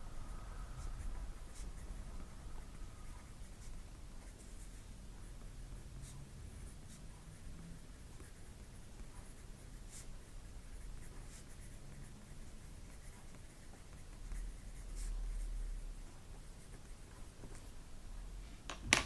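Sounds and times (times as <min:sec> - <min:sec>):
pen scratching on paper: 0:00.7 - 0:17.8.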